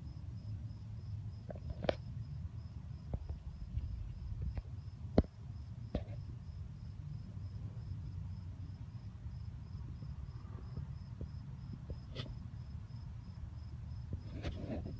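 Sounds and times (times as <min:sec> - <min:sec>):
cricket chirping: 0:00.0 - 0:14.9
low background rumble: 0:00.0 - 0:14.9.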